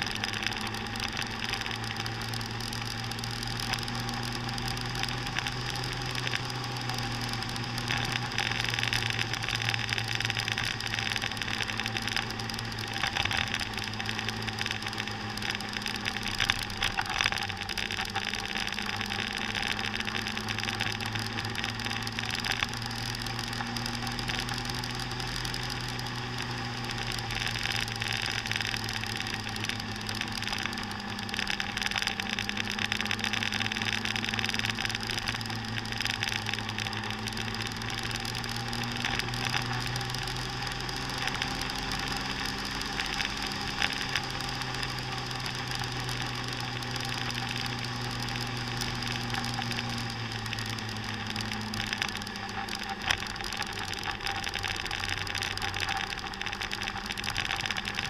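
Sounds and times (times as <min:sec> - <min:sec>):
wind and road rush: 0:00.0 - 0:58.0.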